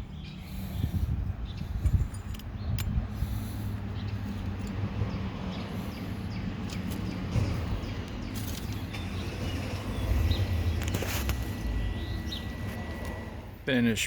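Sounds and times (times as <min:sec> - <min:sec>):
engine humming: 0:01.7 - 0:14.0.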